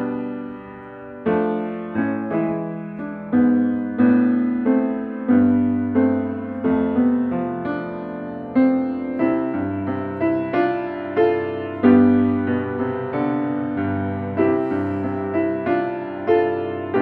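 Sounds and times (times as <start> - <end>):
grand piano melody: 0.0 - 17.0
low bass piano notes: 0.0 - 17.0.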